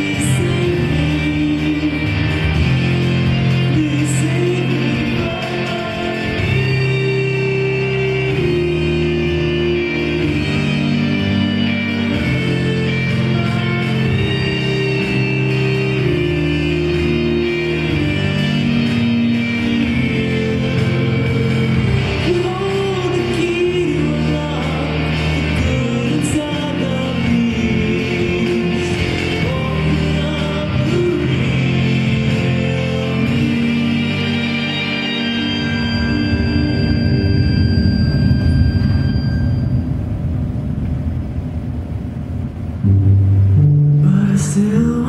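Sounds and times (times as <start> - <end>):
electronic music: 0.0 - 45.0.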